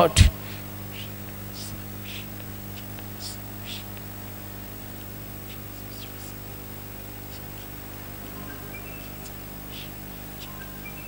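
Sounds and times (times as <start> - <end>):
faint whispered prayer: 0.0 - 8.4, 9.0 - 10.8
sound system electrical hum: 0.0 - 11.0.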